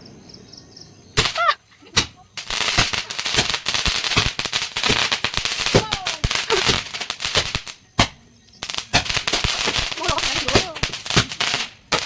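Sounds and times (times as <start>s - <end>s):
firecracker bang: 1.2s - 12.0s
firecrackers cracking and popping: 1.2s - 12.0s.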